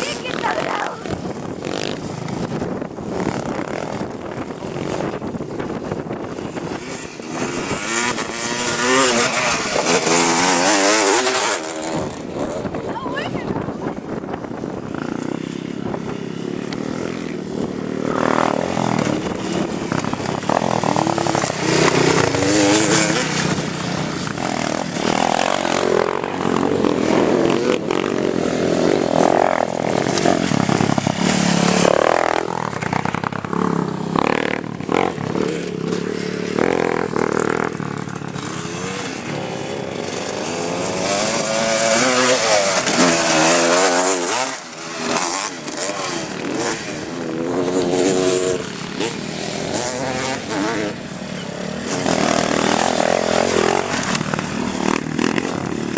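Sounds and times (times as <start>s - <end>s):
small motorcycle engines revving: 0.0s - 55.9s.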